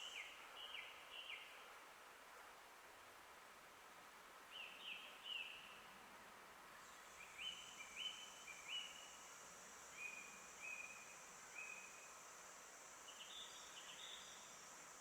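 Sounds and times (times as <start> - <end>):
soft background hiss: 0.0 - 15.0.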